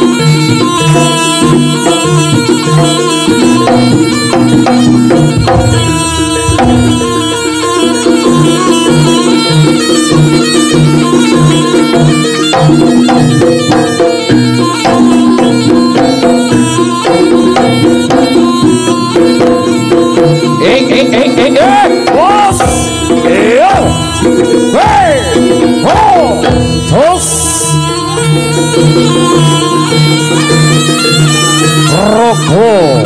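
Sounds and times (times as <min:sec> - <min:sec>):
gamelan percussion: 0:00.0 - 0:33.0
reedy shawm-like melody: 0:00.0 - 0:33.0
steady drum beat: 0:00.0 - 0:33.0.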